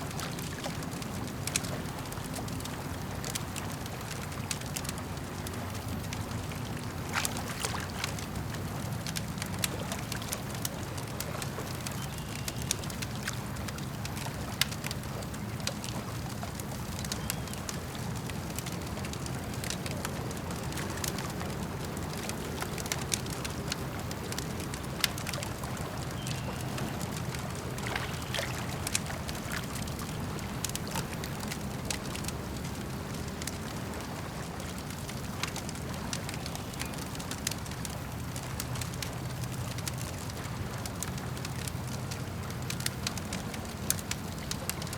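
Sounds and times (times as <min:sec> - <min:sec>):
campfire crackling: 0:00.0 - 0:44.9
lake water washing: 0:00.0 - 0:44.9.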